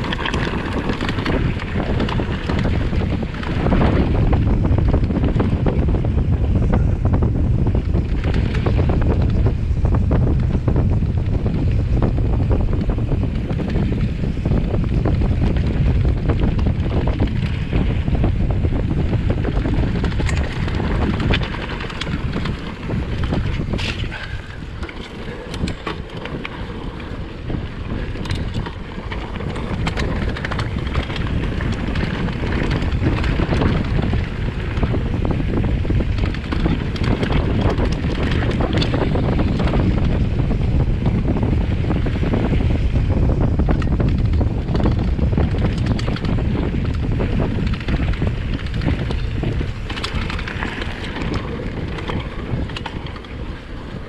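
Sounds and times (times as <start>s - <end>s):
bike rattling over bumps: 0.0s - 54.0s
bike tyres rumbling on ground: 0.0s - 54.0s
wind rushing over microphone: 0.0s - 54.0s.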